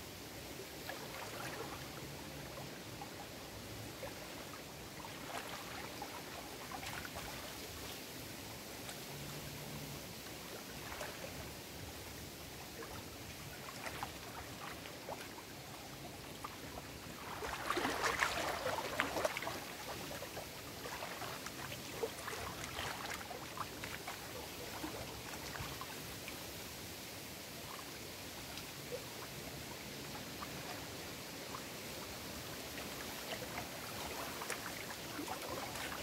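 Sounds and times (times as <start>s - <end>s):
waves lapping against rocks: 0.7s - 8.1s, 8.7s - 26.6s, 28.7s - 36.0s.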